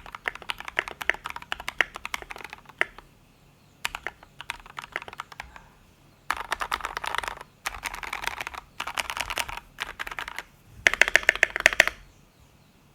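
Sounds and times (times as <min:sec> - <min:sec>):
fast typing on mechanical keyboard: 0:00.0 - 0:03.0, 0:03.8 - 0:05.6, 0:06.3 - 0:12.0.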